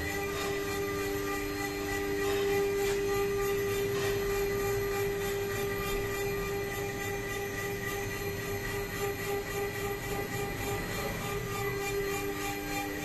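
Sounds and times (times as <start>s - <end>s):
cutter milling metal: 0.0s - 13.0s
router spindle whine: 0.0s - 13.0s.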